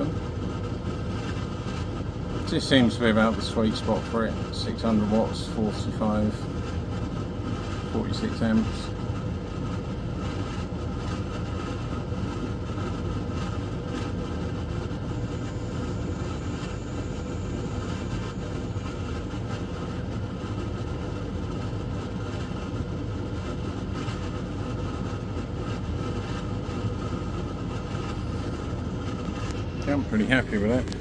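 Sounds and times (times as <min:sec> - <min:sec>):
air conditioner fan running: 0:00.0 - 0:31.0.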